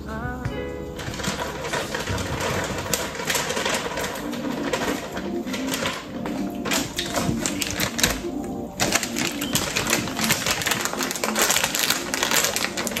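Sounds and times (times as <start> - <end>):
plastic bag crinkling: 0.9 - 13.0.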